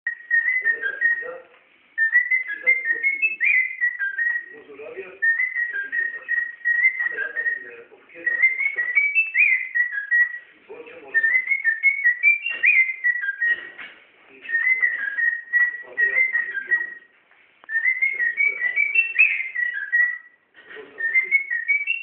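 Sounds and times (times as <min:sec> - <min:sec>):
parrot whistling a tune: 0:00.1 - 0:01.4, 0:02.0 - 0:04.5, 0:05.2 - 0:10.4, 0:11.1 - 0:13.7, 0:14.5 - 0:17.1, 0:17.7 - 0:20.4, 0:21.0 - 0:22.0.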